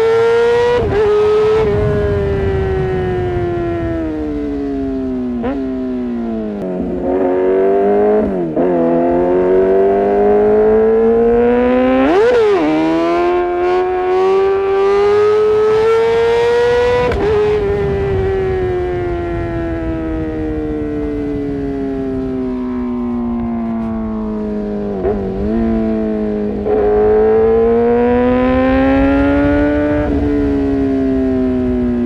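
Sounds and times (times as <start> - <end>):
motorcycle engine revving high: 0.0 - 32.0.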